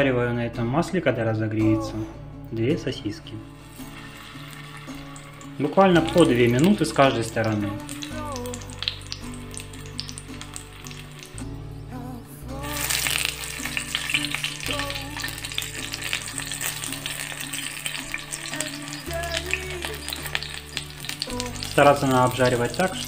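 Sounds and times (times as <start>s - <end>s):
sausages sizzling in a pan: 3.6s - 11.6s, 12.6s - 23.0s.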